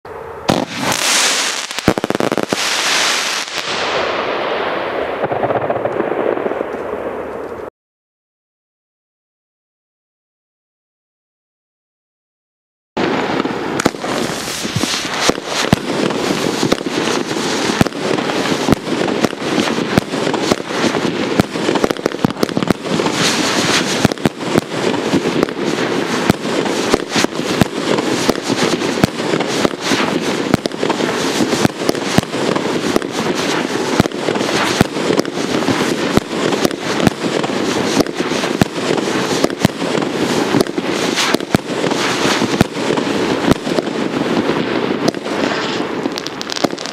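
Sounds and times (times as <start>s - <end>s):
fireworks rapid volley: 0.5s - 7.7s, 13.0s - 46.9s.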